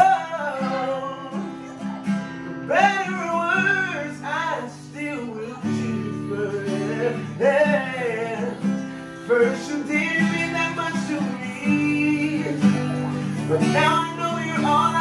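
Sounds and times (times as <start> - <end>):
guitar chords: 0.0 - 15.0
person singing love song: 0.0 - 15.0.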